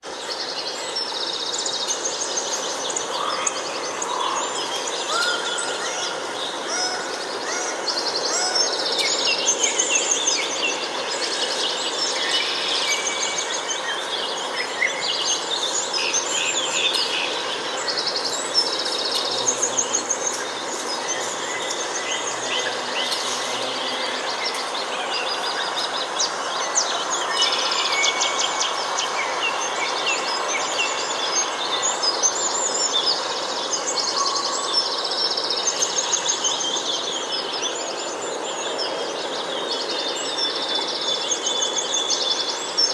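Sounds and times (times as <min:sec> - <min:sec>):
birds singing chirps and trills: 0:00.0 - 0:42.9
steady background hiss: 0:00.1 - 0:42.9.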